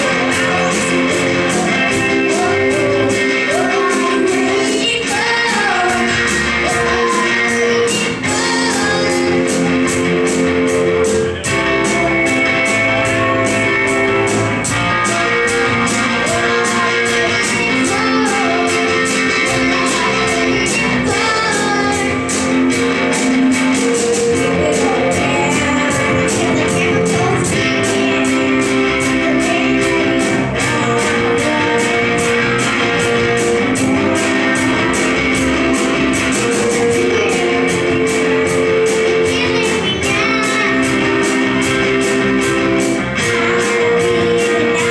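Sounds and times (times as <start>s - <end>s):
girl singing: 0.0s - 10.0s, 14.9s - 33.6s, 36.6s - 44.9s
bass guitar: 0.0s - 44.9s
drums with cymbal beat: 0.0s - 44.9s
electric guitar: 0.0s - 44.9s
keyboard: 0.0s - 44.9s.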